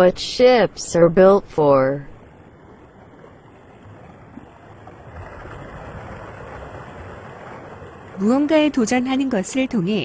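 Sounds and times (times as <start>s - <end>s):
waves washing: 0.0s - 10.0s
wind: 0.0s - 10.0s.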